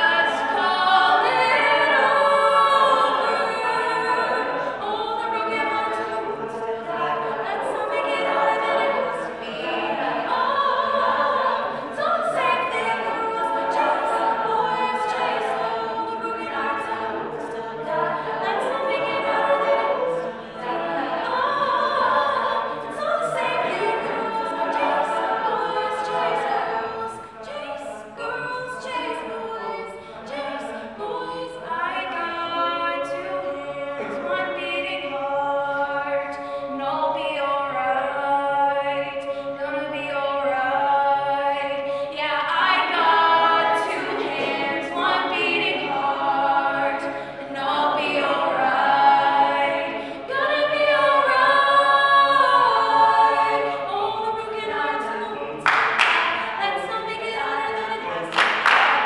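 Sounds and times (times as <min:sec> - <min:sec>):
backing singers holding chords: 0:00.0 - 0:59.0
woman singing lead: 0:00.0 - 0:59.0.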